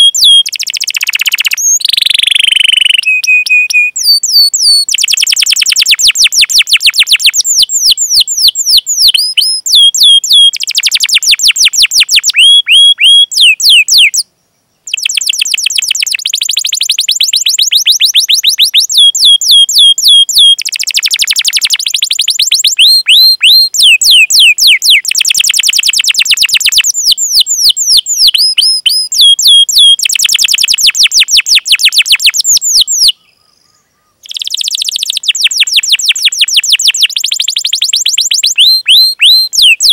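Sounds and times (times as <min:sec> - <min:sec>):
canary singing: 0:00.0 - 0:33.4, 0:34.1 - 0:39.9.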